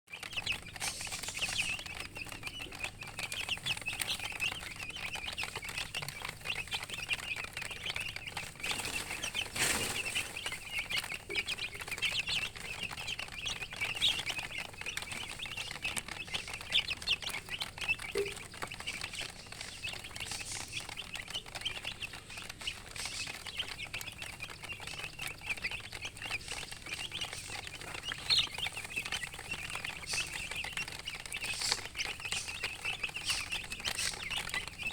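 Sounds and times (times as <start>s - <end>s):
baby chicks peeping: 0.1s - 34.9s.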